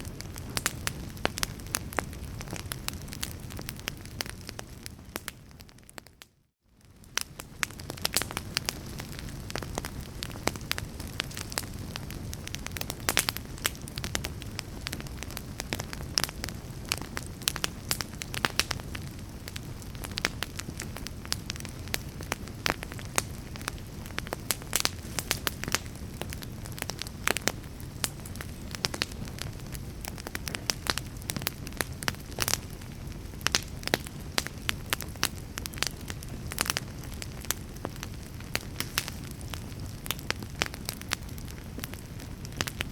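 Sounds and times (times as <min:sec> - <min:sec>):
fire crackling and popping: 0:00.0 - 0:42.9
low rush of burning: 0:06.8 - 0:42.9.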